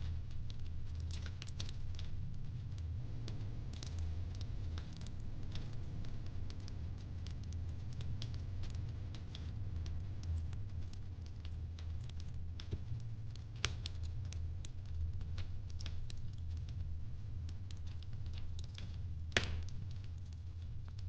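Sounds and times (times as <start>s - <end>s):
burning wood crackling and popping: 0.0s - 21.0s
low fire rumble: 0.0s - 21.0s.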